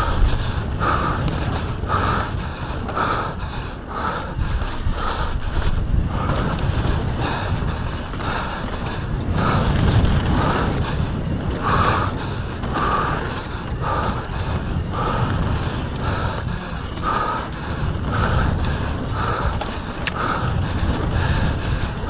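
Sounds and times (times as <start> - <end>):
tyres rumbling over dirt: 0.0 - 3.5, 4.5 - 22.0
rider breathing hard: 0.0 - 22.0
wind buffeting microphone: 0.0 - 22.0.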